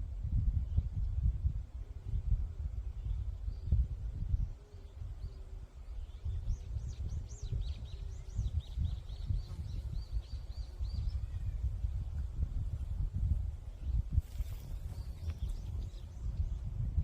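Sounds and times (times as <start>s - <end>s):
wind rumbling on microphone: 0.0s - 17.0s
songbird singing: 0.1s - 17.0s.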